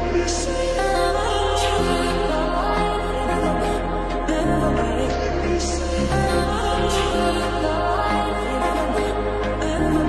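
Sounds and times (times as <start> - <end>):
music with sustained bass note: 0.0 - 10.0.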